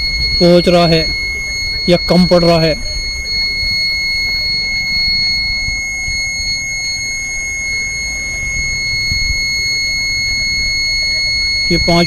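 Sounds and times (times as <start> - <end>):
continuous high-pitched beep: 0.0 - 12.0.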